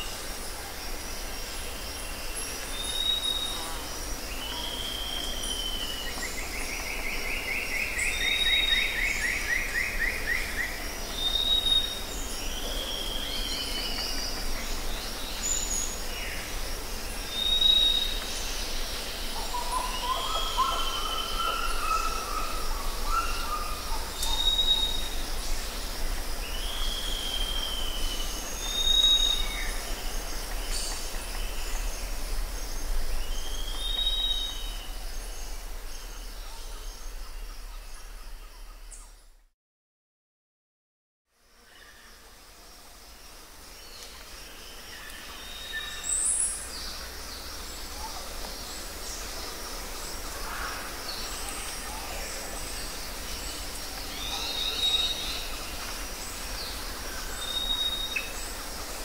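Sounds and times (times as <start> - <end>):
steady background hiss: 0.0 - 39.2, 41.3 - 59.0.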